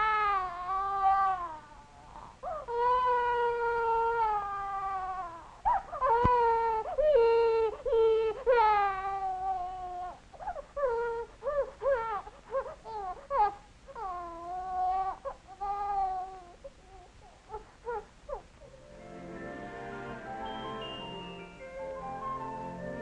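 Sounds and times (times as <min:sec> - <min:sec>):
baby crying: 0:00.0 - 0:18.5.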